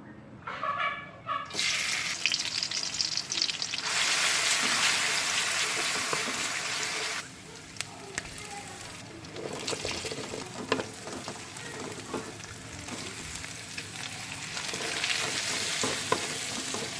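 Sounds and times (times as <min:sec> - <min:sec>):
food sizzling in a frying pan: 0:01.5 - 0:16.9.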